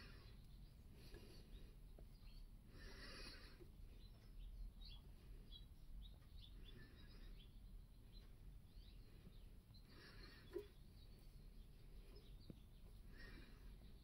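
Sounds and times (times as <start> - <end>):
faint bird chirps: 0.0 - 14.0
low steady hum: 0.0 - 14.0.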